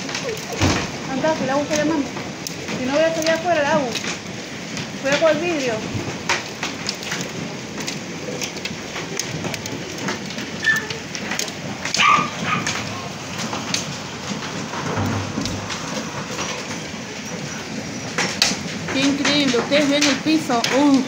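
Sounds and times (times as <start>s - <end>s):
hailstones pelting: 0.0s - 21.0s.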